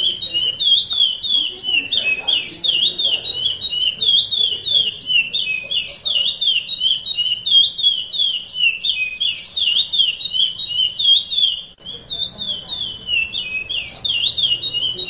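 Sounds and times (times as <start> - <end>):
finch singing whistled notes: 0.0 - 15.0.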